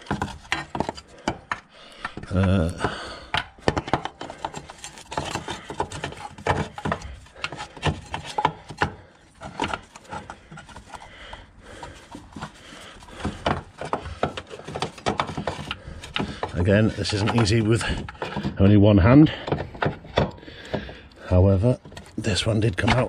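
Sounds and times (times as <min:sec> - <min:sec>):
engine mounting knocking and scraping: 0:00.0 - 0:23.0.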